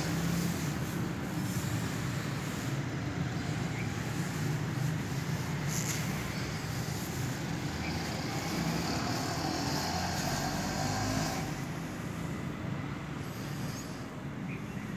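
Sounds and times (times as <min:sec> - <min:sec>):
loud hiss: 0:00.0 - 0:14.9
road traffic rumble: 0:00.0 - 0:14.9.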